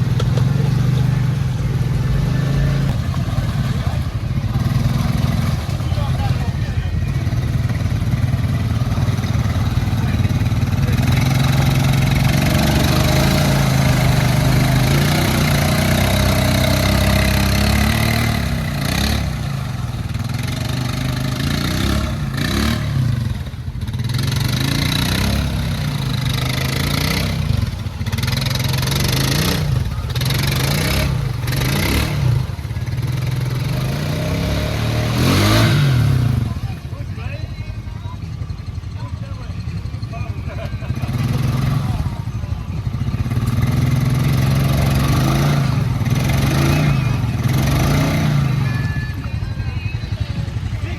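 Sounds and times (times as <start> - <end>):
atv engine revving: 0.0 - 50.9.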